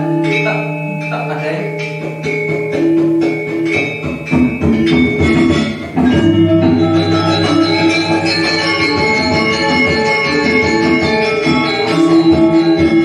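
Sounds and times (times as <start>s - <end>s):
metallophones ringing: 0.0s - 13.0s.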